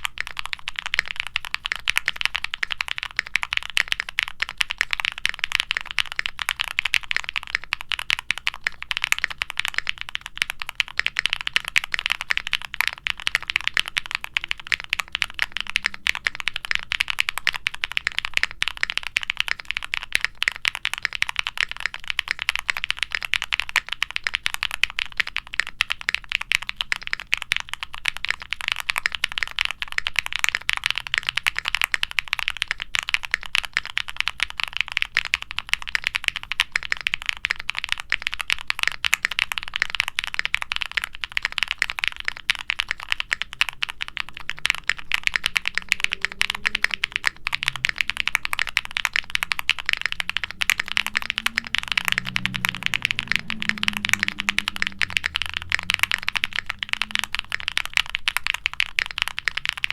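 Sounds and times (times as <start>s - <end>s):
fast mechanical keyboard typing: 0.0s - 59.9s.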